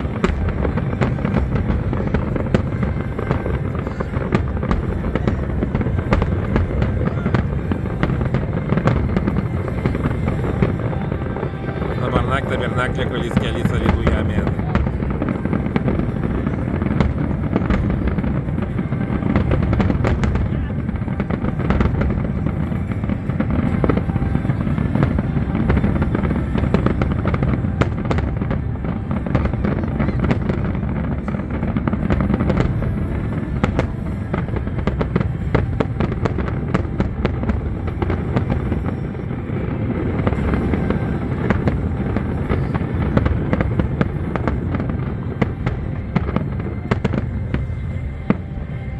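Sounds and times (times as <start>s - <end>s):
fireworks bursting and booming: 0.0s - 48.9s
fireworks crackling: 0.0s - 48.9s
music: 0.0s - 48.9s.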